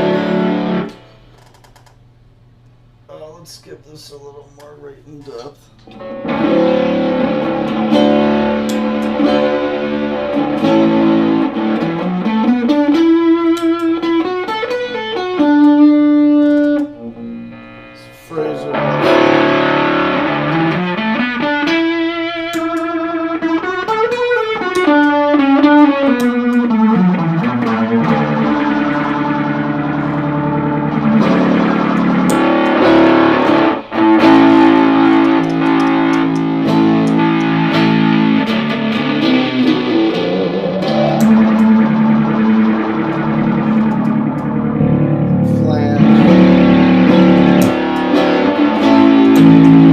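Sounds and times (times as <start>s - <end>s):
electric guitar with wavering modulation: 0.0s - 2.0s, 5.6s - 49.9s.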